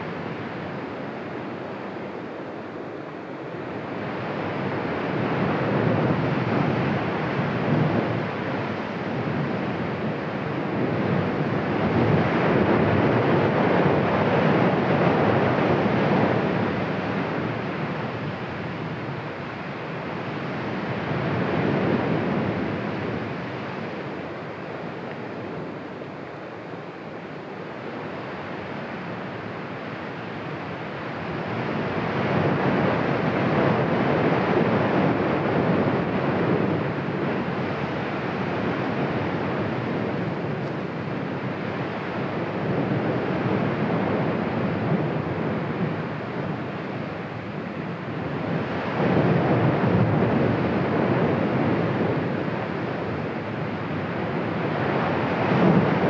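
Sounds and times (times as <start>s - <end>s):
volcano roaring: 0.0s - 56.0s.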